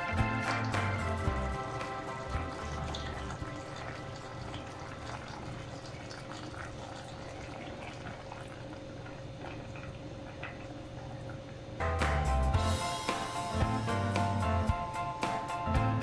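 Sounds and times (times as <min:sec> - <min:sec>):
pot of sauce simmering: 0:00.0 - 0:16.0.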